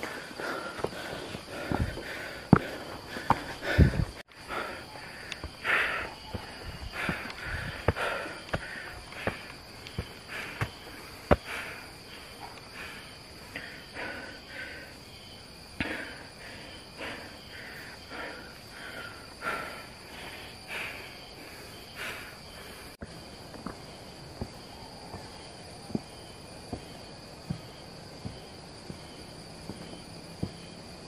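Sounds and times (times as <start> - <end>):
footsteps on forest trail: 0.0 - 14.8, 15.6 - 30.8.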